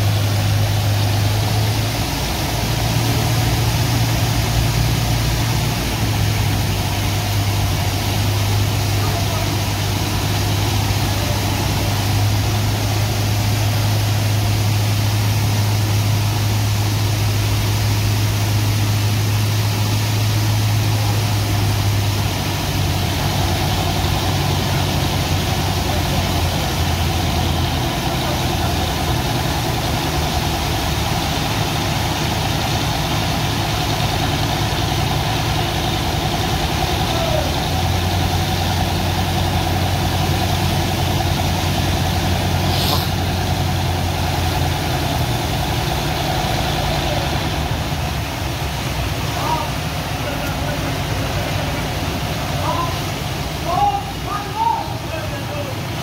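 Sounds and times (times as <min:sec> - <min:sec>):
pump engines humming: 0:00.0 - 0:56.0
water jet hissing on sand: 0:00.0 - 0:56.0.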